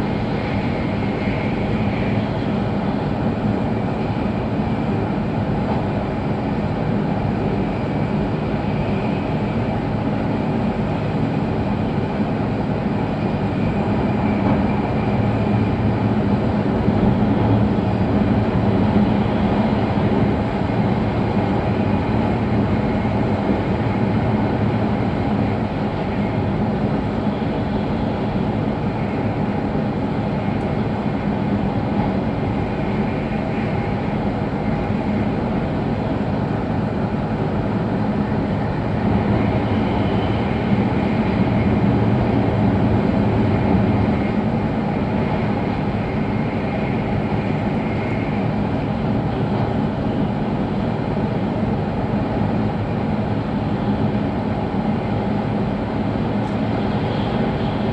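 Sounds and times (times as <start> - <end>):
train running inside passenger car: 0.0 - 57.9.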